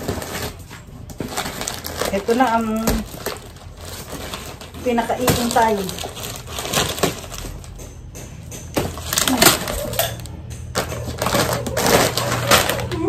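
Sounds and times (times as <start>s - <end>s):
paper bag and plastic rustling: 0.0s - 7.8s, 8.8s - 13.0s.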